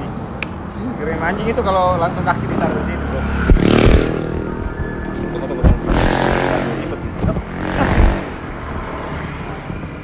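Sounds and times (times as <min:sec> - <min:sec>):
steady low traffic rumble: 0:00.0 - 0:10.0
vehicles passing close by: 0:00.0 - 0:10.0.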